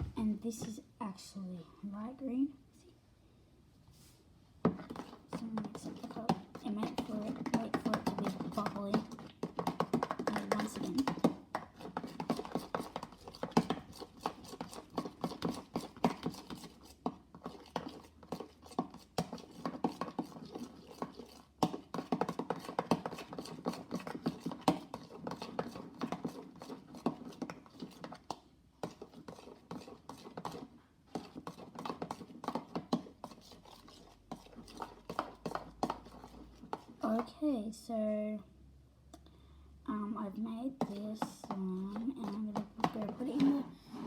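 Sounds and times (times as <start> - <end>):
tool stirring slime in a bowl: 4.6 - 37.5, 40.5 - 44.0.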